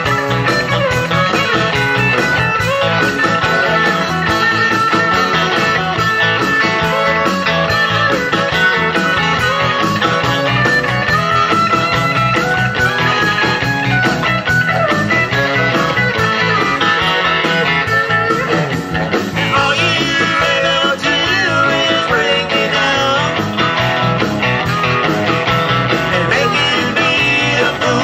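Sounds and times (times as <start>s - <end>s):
electric guitar: 0.0s - 28.0s
rock band playing: 0.0s - 28.0s.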